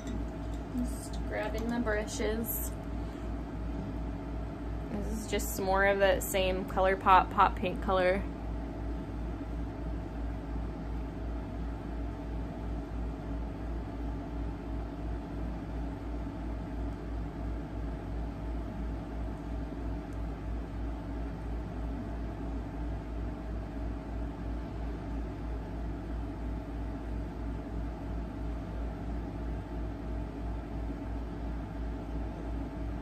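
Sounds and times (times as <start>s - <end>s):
pulsing low hum: 0.0s - 33.0s.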